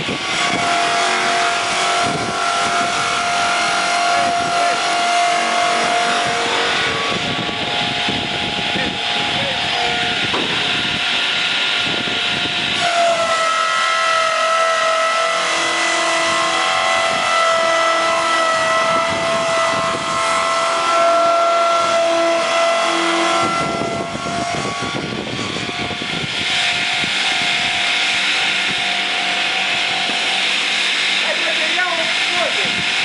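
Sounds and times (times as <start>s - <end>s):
circular saw blade cutting log: 0.0s - 33.0s.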